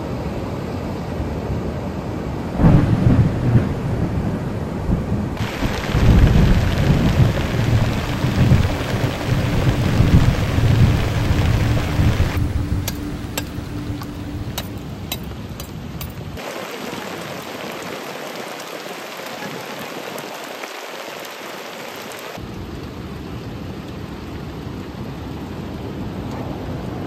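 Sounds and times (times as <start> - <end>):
heavy rain falling: 2.5 - 27.0.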